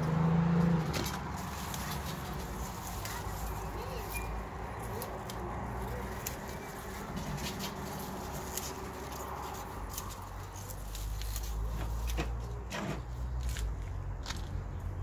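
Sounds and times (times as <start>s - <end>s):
pea vines rustling: 0.8s - 15.0s.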